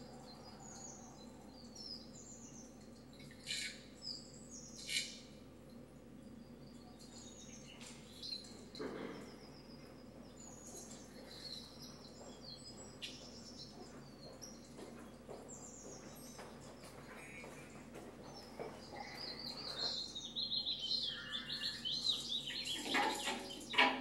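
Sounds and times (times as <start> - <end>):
faint birdsong chirps: 0.0 - 24.0.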